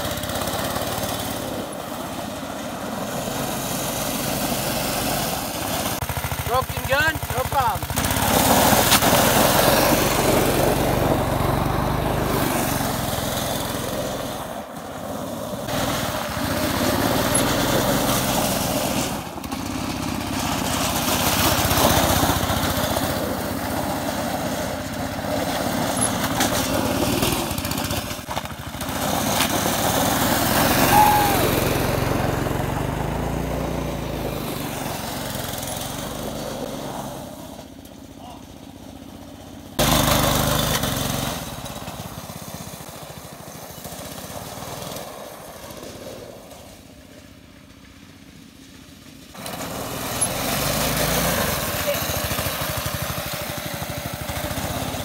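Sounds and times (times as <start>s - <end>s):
small engine running hard: 0.0s - 55.0s
tire spinning on gravel: 0.0s - 55.0s.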